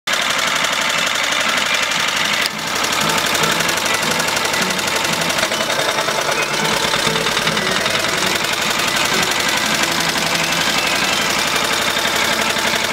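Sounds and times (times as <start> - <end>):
small generator engine running: 0.1 - 12.9.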